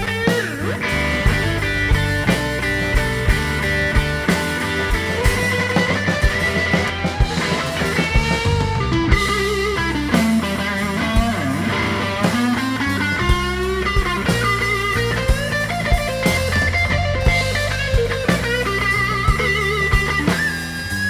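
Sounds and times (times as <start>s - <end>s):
bass guitar: 0.0s - 21.0s
electric guitar lead lines: 0.0s - 21.0s
steady drum beat: 0.0s - 21.0s.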